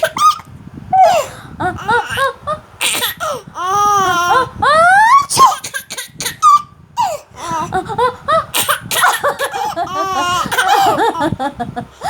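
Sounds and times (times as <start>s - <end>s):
baby giggling: 0.0s - 4.5s, 5.3s - 11.8s.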